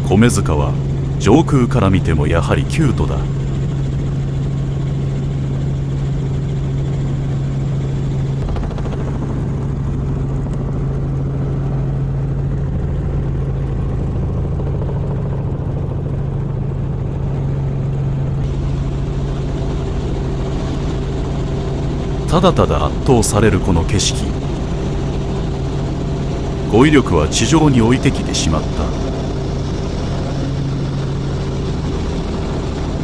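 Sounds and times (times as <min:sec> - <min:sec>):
helicopter engine and rotor noise: 0:00.0 - 0:33.0.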